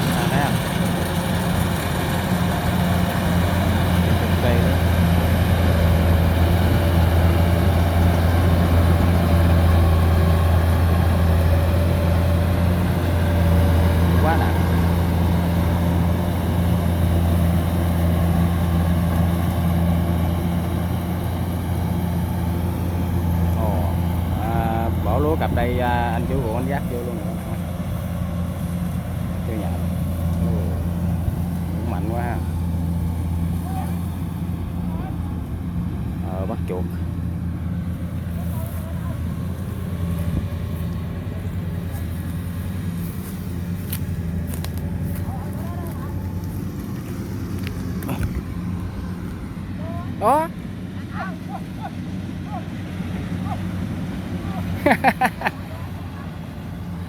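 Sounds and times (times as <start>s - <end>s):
combine harvester engine droning: 0.0s - 57.0s.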